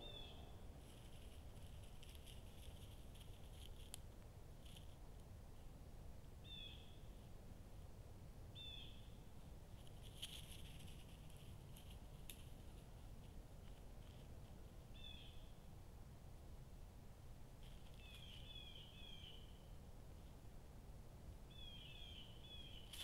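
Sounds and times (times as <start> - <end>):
low steady microphone hiss: 0.0 - 23.0.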